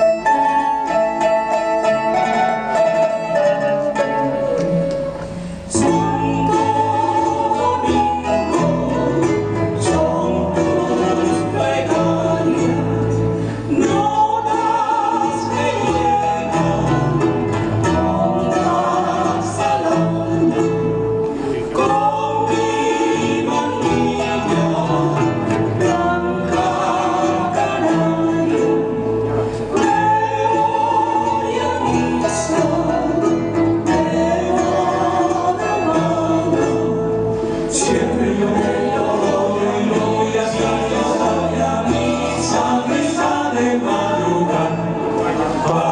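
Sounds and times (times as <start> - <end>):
strummed guitars: 0.0 - 45.9
voices singing: 5.3 - 45.9.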